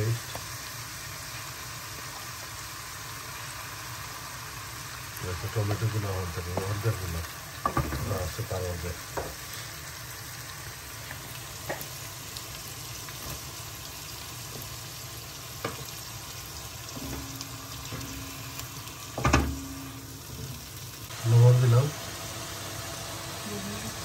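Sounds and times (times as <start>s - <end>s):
onion frying in hot oil: 0.0s - 24.0s.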